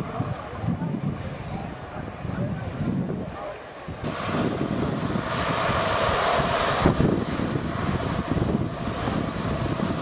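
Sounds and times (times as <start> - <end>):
steam train rumbling past: 0.0 - 10.0
wind buffeting microphone: 0.0 - 10.0.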